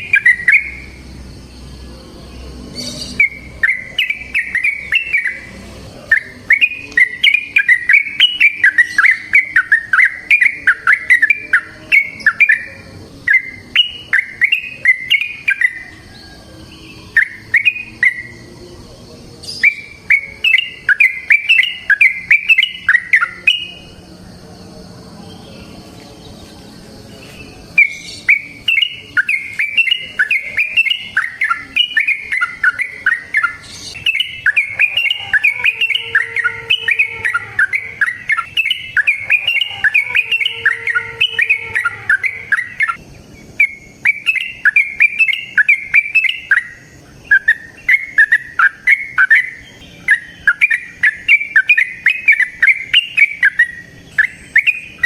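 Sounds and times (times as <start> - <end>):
bulbul singing bubbly chatter: 0.0 - 55.0.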